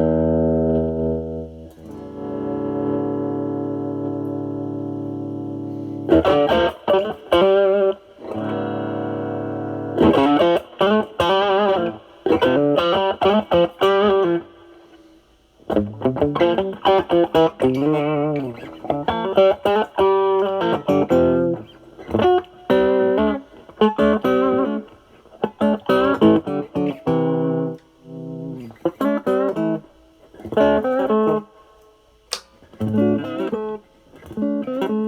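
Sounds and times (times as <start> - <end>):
overdriven electric guitar: 0.0 - 35.0.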